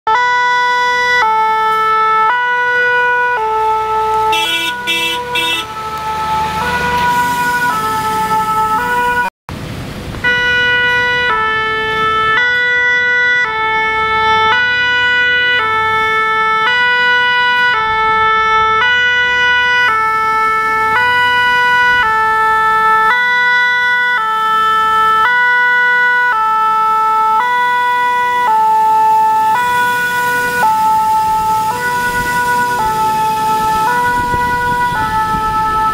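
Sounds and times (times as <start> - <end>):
two-tone fire siren: 0.1 - 9.3, 10.1 - 35.9.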